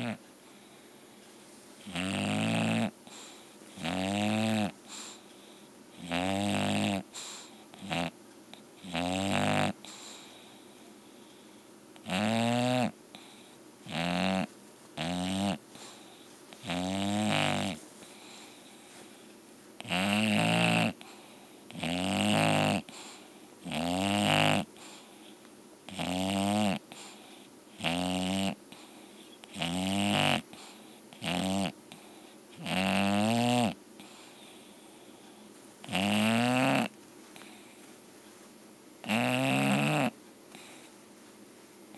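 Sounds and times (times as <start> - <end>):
dog snoring: 0.0 - 0.3, 1.8 - 5.3, 5.9 - 8.2, 8.8 - 10.7, 12.0 - 19.0, 19.8 - 25.2, 25.9 - 37.8, 39.0 - 40.9.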